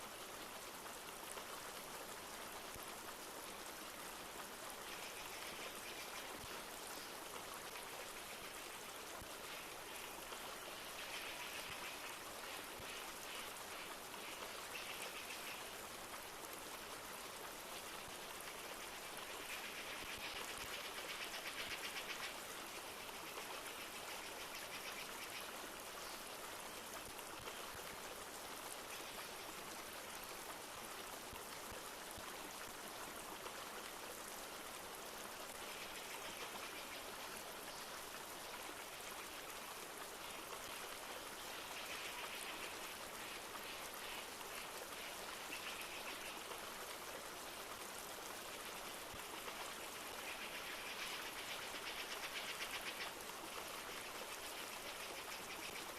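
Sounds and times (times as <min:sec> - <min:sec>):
light rain pattering: 0:00.0 - 0:55.9
river flowing: 0:00.0 - 0:55.9.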